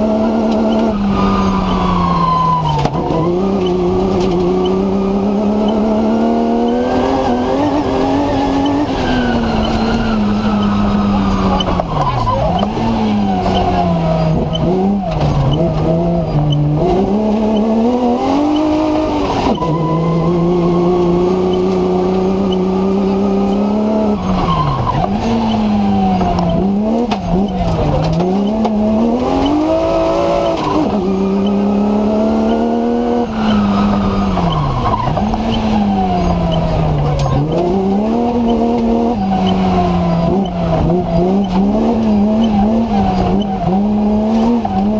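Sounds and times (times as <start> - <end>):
racing car engine revving: 0.0 - 44.9.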